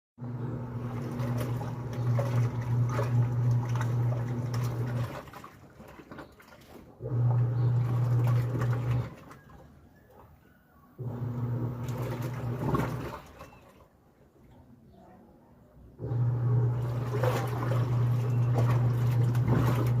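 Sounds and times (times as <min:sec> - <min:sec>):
washing machine motor humming: 0:00.2 - 0:10.2, 0:11.0 - 0:13.8, 0:16.0 - 0:20.0
water sloshing in tub: 0:00.2 - 0:14.7, 0:16.0 - 0:20.0.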